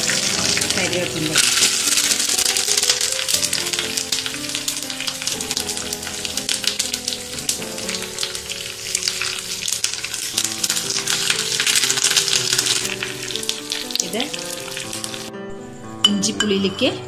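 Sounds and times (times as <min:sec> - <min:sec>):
seeds sizzling in hot oil: 0:00.0 - 0:15.7.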